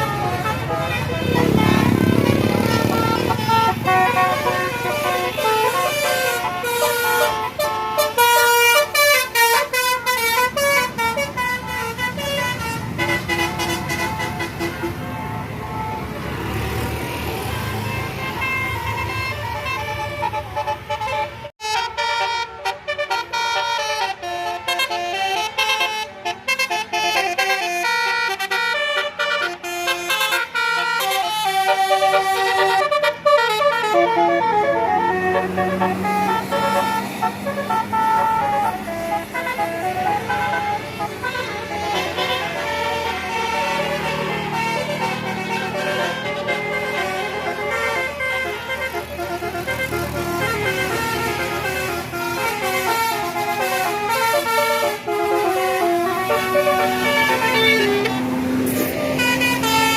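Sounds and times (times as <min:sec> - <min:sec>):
multi-tone musical bus horns: 0:00.0 - 0:59.9.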